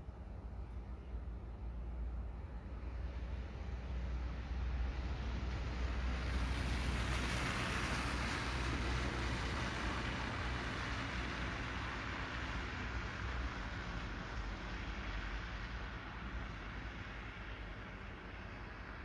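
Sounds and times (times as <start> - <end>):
car tyres hissing on wet street: 2.6 - 19.0.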